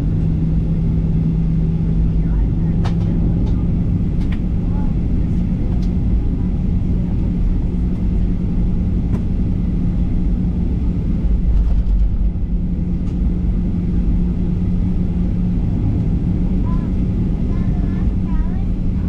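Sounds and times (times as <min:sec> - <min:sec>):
aircraft cabin rumble: 0:00.0 - 0:19.0
even hum: 0:00.0 - 0:19.0.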